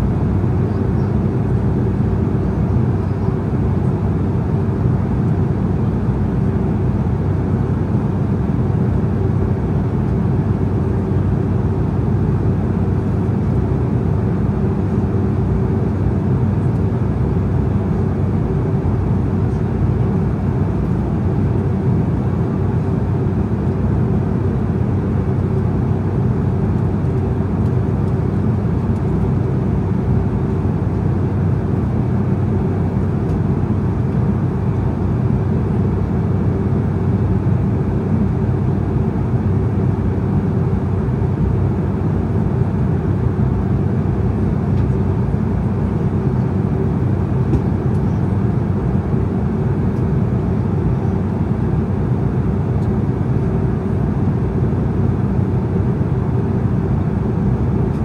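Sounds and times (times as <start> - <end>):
constant hums: 0.0 - 58.0
jet engines droning: 0.0 - 58.0.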